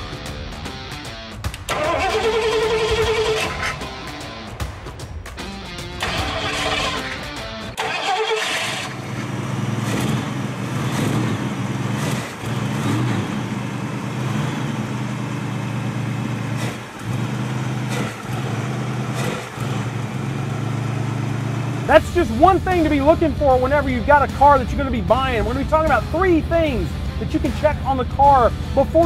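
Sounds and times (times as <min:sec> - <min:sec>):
car engine starting and idling: 0:00.5 - 0:29.0.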